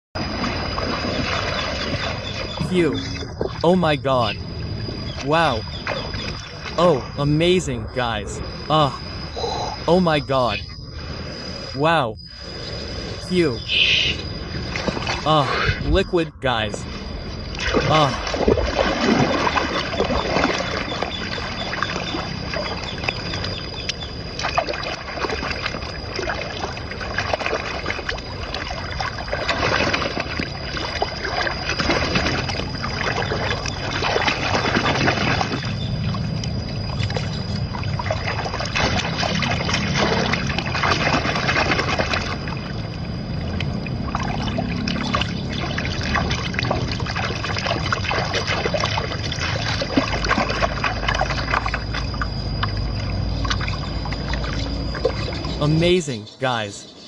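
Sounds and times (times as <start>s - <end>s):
water trickling and sloshing: 0.2s - 9.3s, 14.2s - 15.4s, 16.4s - 55.7s.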